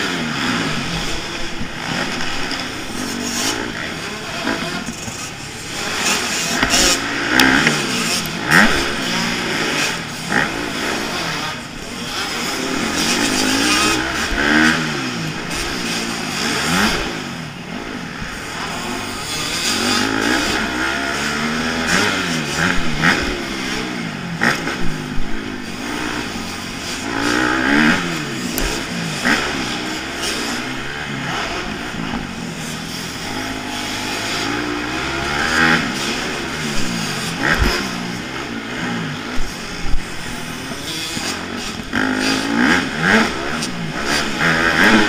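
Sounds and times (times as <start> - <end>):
motorbike engine revving: 0.0 - 45.0.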